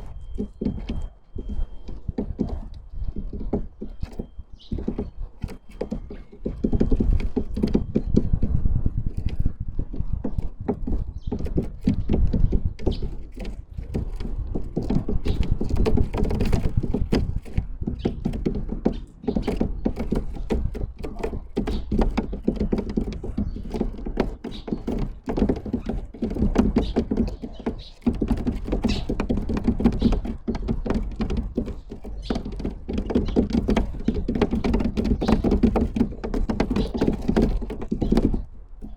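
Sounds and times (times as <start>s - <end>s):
birds pecking on wooden feeder: 0.0s - 38.9s.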